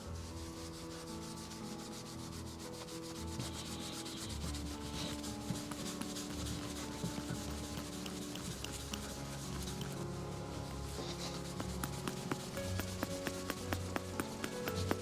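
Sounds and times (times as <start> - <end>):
cloth rubbing on metal: 0.0 - 15.0.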